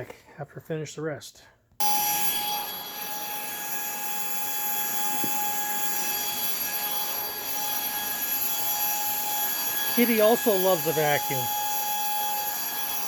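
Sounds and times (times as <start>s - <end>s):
stick vacuum running: 1.8s - 13.0s.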